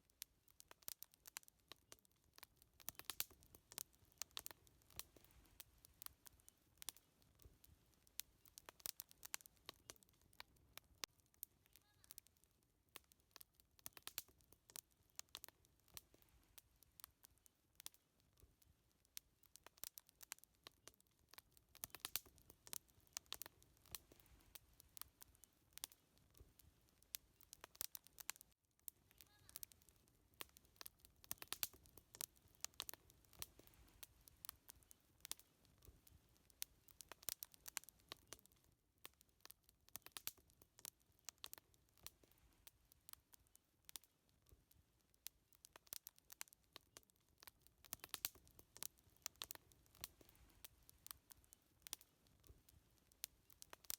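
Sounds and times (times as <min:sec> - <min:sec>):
faint low hiss: 0:00.0 - 0:53.9
wood fire crackling: 0:00.0 - 0:53.9.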